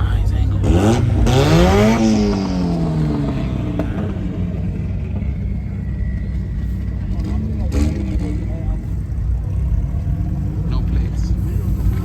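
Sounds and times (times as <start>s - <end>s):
car engine revving: 0.0s - 12.0s
low engine rumble: 0.0s - 12.0s.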